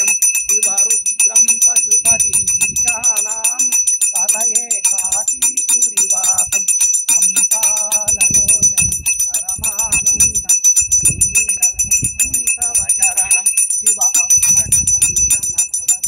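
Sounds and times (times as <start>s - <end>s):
hand bell ringing rapidly: 0.0s - 16.0s
voices: 0.0s - 16.0s.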